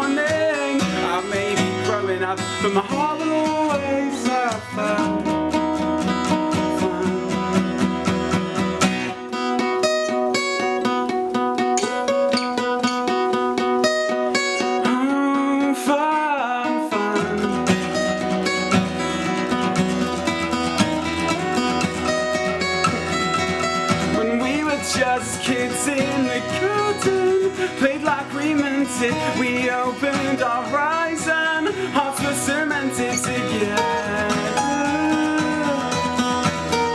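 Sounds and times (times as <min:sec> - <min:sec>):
acoustic guitar music: 0:00.0 - 0:36.9.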